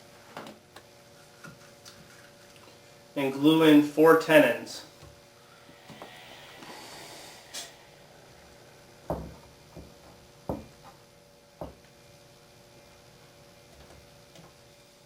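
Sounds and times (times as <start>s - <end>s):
soft hiss: 2.3s - 15.0s.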